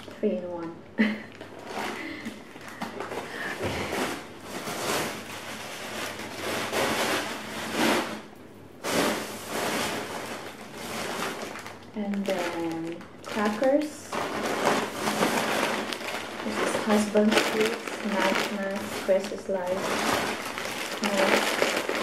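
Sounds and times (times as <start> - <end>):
plastic bag rustling: 1.0 - 22.0.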